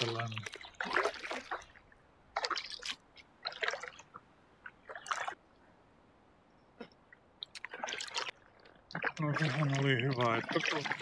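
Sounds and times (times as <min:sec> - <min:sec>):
paddle strokes splashing water: 0:00.0 - 0:05.4, 0:07.5 - 0:11.0.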